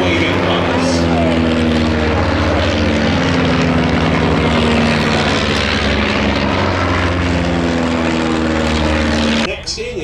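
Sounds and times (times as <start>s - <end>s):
propeller plane droning: 0.0s - 10.0s.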